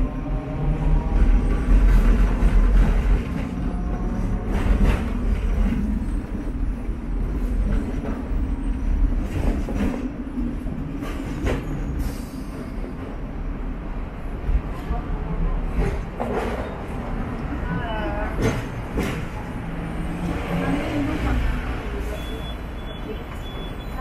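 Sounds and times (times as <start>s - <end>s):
electric tram rumbling: 0.0s - 24.0s.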